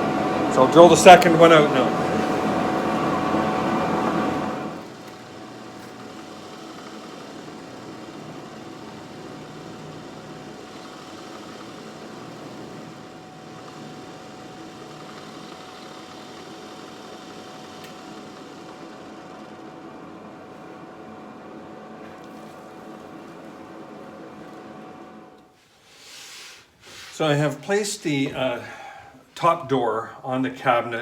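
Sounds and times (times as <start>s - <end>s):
drill press boring wood: 0.0s - 25.4s
dust extractor running: 0.0s - 30.2s.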